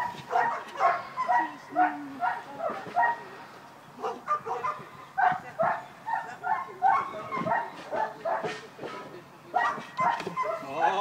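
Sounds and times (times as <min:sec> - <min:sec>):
dog barking and yipping: 0:00.0 - 0:03.2, 0:04.0 - 0:08.6, 0:09.6 - 0:11.0.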